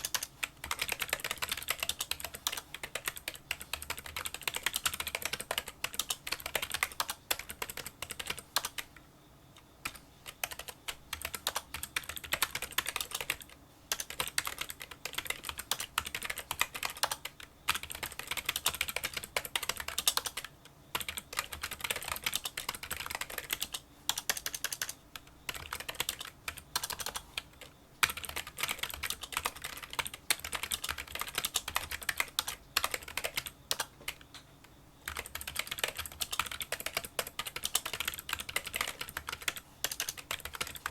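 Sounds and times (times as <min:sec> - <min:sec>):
fast keyboard typing: 0:00.0 - 0:08.9, 0:09.8 - 0:34.3, 0:35.0 - 0:40.9.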